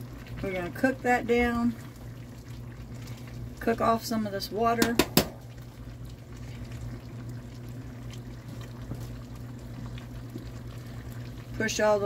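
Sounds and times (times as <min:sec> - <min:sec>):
squash simmering in water: 0:00.0 - 0:12.0.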